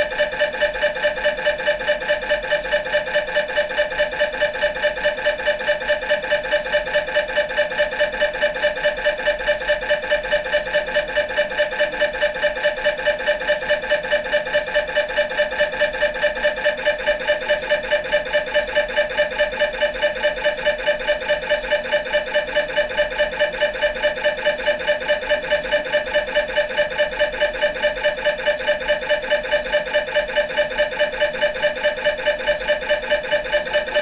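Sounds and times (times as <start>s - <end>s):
mri scanner pulsing buzz: 0.0s - 34.0s.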